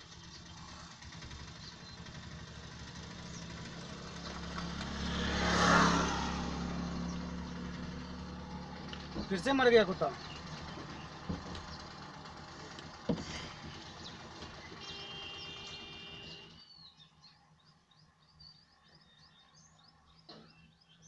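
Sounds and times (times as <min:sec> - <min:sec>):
vehicle engine idling: 0:00.0 - 0:20.8.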